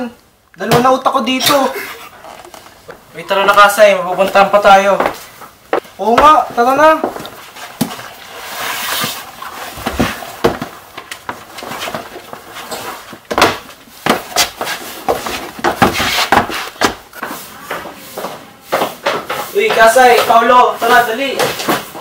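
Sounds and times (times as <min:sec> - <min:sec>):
knocks of people moving about: 0:00.6 - 0:08.3, 0:08.9 - 0:22.0.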